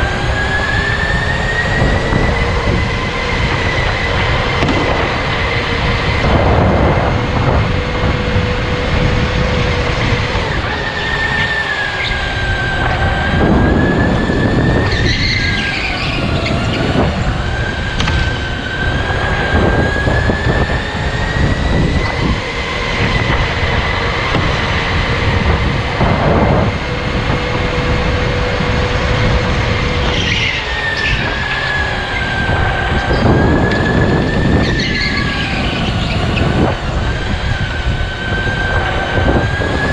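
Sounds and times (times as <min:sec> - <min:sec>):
electric motor whine: 0:00.0 - 0:39.9
rumble of tyres and chassis: 0:00.0 - 0:39.9.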